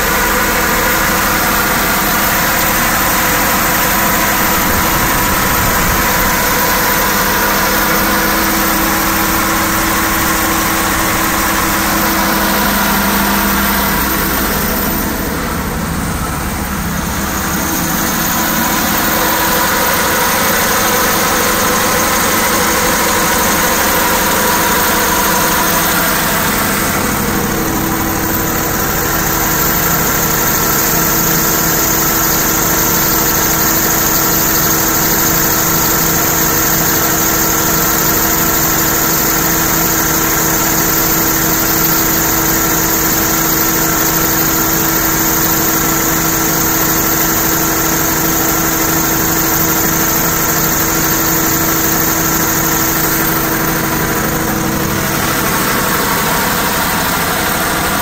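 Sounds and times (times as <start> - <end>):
diesel generator droning: 0.0 - 58.0.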